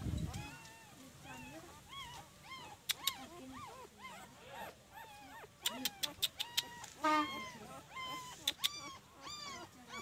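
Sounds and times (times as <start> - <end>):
puppies whimpering: 0.2 - 10.0.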